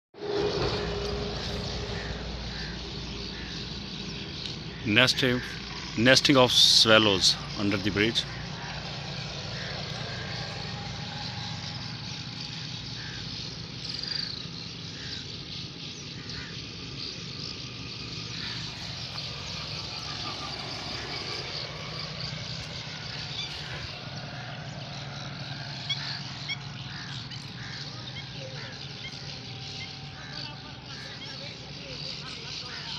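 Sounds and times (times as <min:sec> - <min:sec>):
low traffic rumble: 0:00.2 - 0:32.9
swallows twittering: 0:00.2 - 0:32.9.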